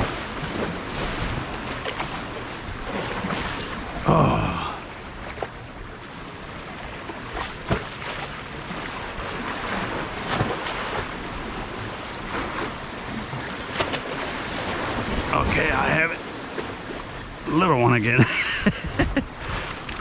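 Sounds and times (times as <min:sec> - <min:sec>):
waves washing against rocks: 0:00.0 - 0:18.2.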